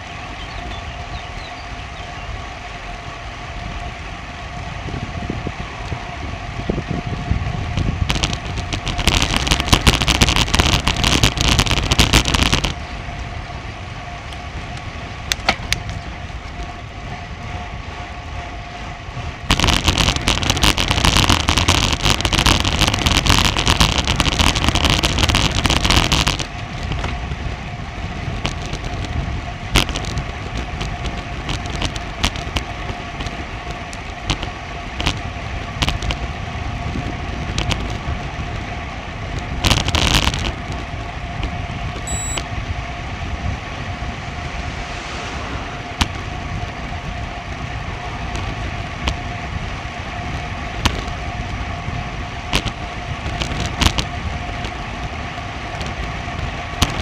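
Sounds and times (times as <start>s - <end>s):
rushing road and wind noise: 0.0s - 57.0s.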